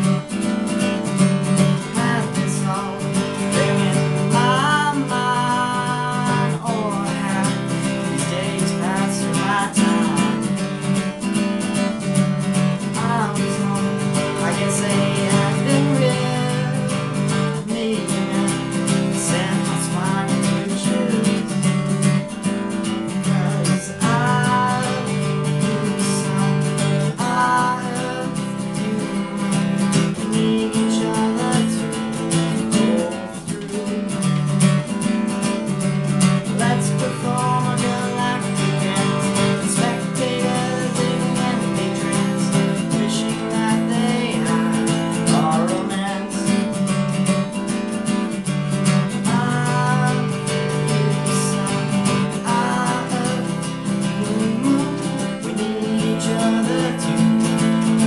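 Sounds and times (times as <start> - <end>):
acoustic guitar strummed: 0.0 - 58.0
man singing: 0.0 - 58.0.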